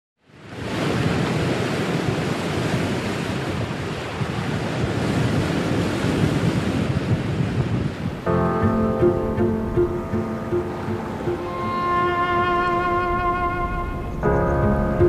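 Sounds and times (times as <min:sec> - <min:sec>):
ocean surf: 0:00.2 - 0:15.0
wind: 0:00.2 - 0:15.0.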